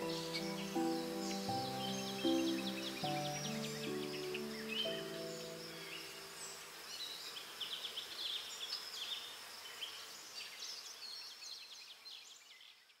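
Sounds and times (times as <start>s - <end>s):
high insect buzz: 0.0s - 12.0s
birds chirping: 0.0s - 13.0s.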